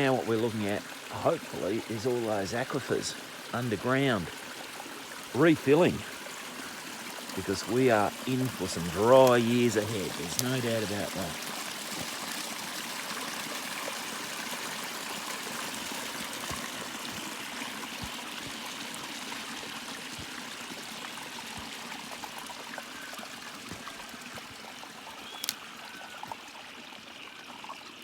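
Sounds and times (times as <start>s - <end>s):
water rushing down spillway: 0.0s - 28.0s.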